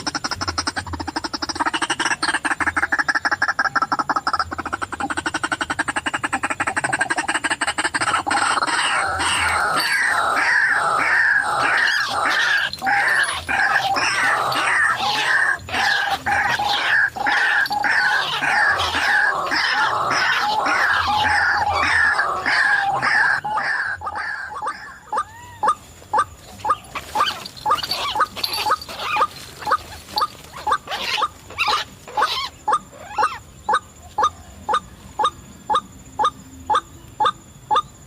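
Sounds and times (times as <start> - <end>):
waterhen calling: 0.0 - 37.9.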